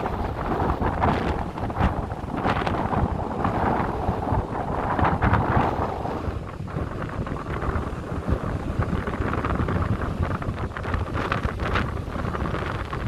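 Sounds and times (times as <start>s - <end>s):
sea waves washing: 0.0s - 13.0s
wind buffeting microphone: 0.0s - 13.0s.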